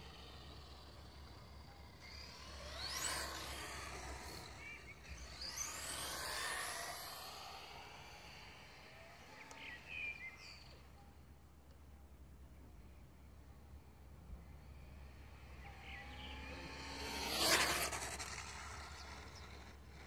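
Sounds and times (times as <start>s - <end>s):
rc car electric motor whining: 0.0s - 10.9s, 14.6s - 20.0s.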